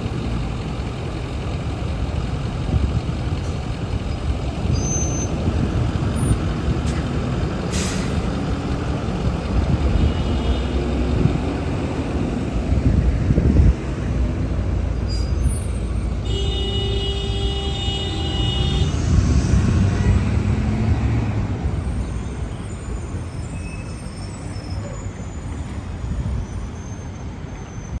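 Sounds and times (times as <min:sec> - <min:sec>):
bus engine rumble: 0:00.0 - 0:28.0
road traffic: 0:00.0 - 0:28.0.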